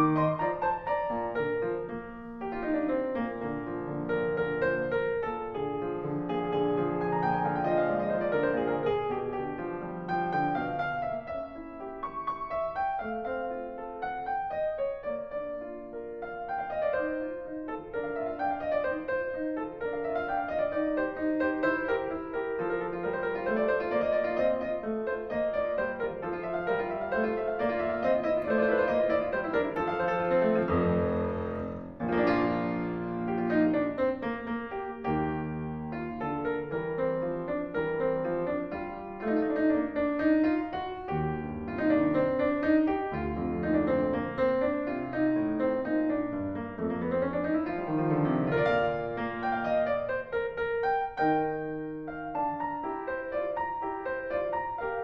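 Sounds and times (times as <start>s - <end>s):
piano piece with chords: 0.0s - 55.0s.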